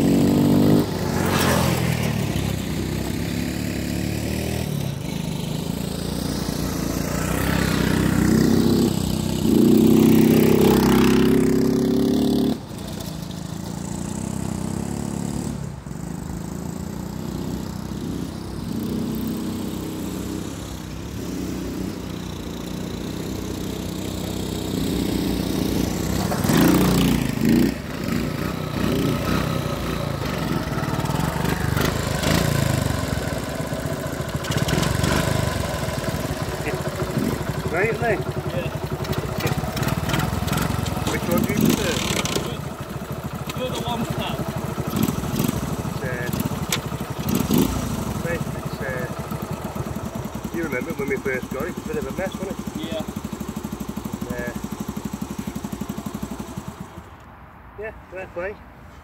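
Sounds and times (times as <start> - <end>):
small four-stroke engines running: 0.0 - 57.3.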